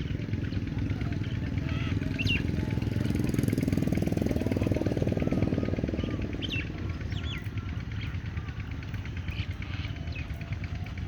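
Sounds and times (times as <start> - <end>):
engine putter: 0.0 - 11.0.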